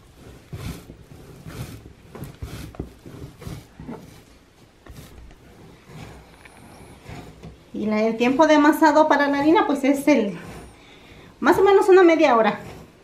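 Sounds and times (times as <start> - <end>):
dough kneaded on wooden table: 0.0 - 13.0.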